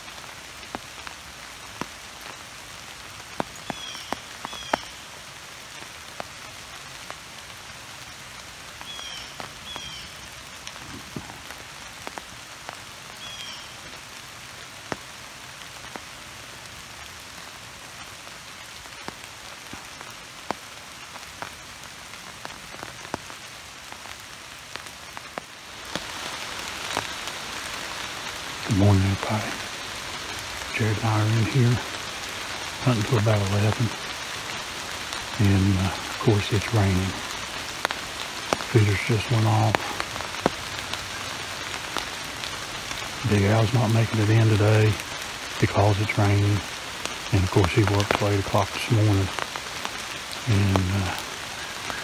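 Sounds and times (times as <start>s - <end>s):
sharp drips of raindrops: 0.0s - 52.0s
steady rain falling: 0.0s - 52.0s.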